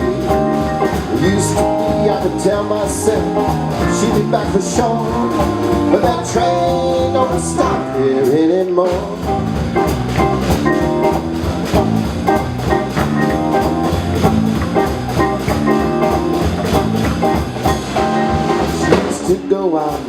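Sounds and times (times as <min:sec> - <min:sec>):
drum kit beat: 0:00.0 - 0:20.0
guitar: 0:00.0 - 0:20.0.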